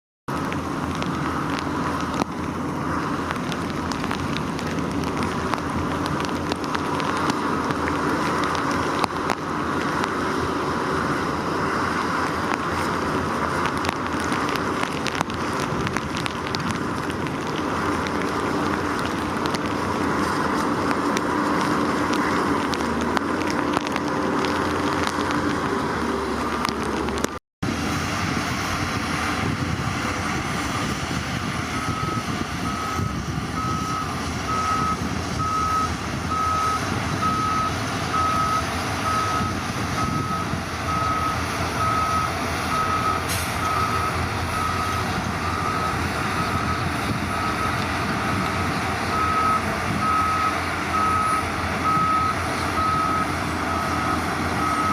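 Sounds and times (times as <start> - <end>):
bulldozer diesel engine running: 0.3 - 54.9.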